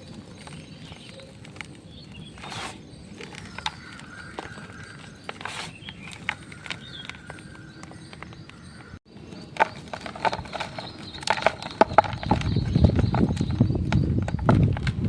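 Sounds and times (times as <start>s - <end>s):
chalk block crunching: 0.0s - 15.0s.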